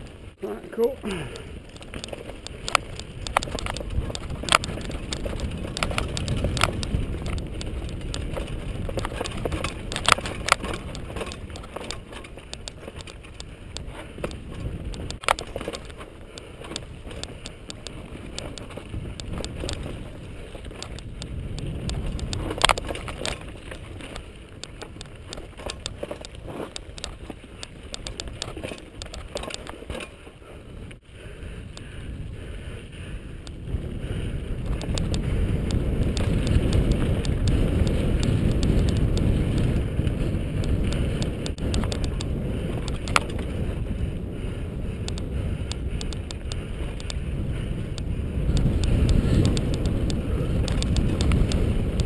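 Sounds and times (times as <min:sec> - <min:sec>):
tyres rumbling on dirt: 0:00.0 - 0:31.0, 0:33.6 - 0:52.0
bike clacking and rattling: 0:01.1 - 0:31.0, 0:31.6 - 0:52.0
wind on microphone: 0:01.1 - 0:52.0.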